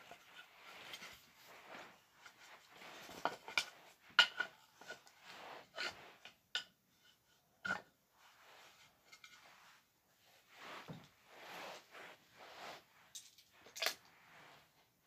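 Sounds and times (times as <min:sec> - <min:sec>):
soft rustling: 0:00.0 - 0:15.0.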